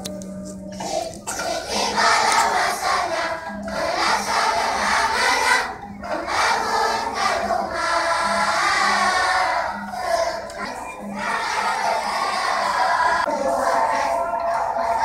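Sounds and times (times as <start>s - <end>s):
children chanting together: 0.7s - 15.0s.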